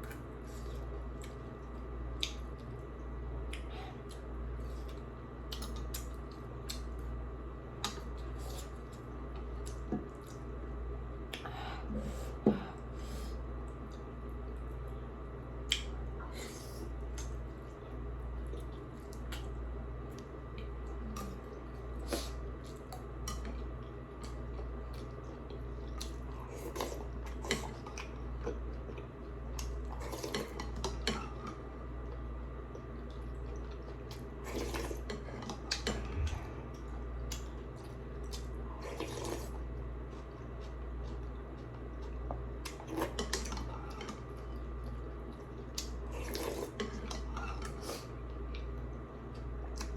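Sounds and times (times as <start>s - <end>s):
low pulsing hum: 0.0s - 49.9s.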